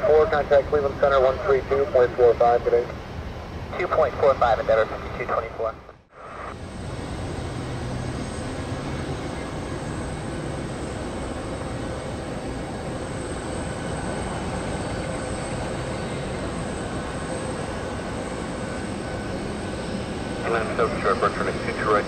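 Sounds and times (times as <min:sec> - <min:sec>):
jet engine noise: 0:00.0 - 0:22.0.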